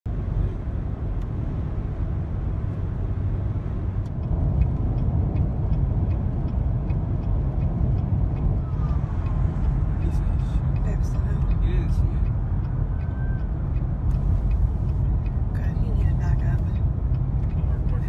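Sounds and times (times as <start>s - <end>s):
car driving at highway speed: 0.1s - 18.0s.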